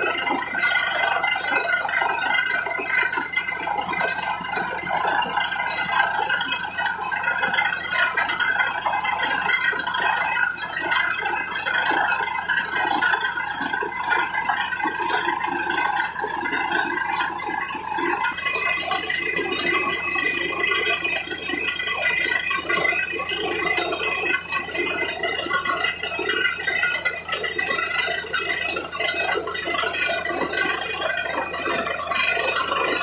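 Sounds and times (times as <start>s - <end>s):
drilling rig droning and whining: 0.0s - 33.0s.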